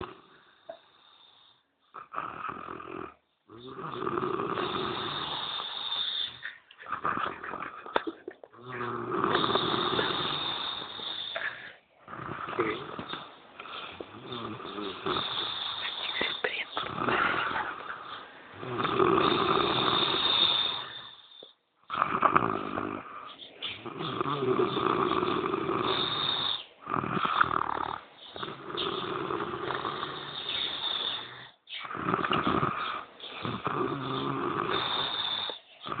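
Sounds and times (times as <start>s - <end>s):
man snoring: 0.0s - 8.0s, 8.6s - 23.2s, 23.8s - 36.0s.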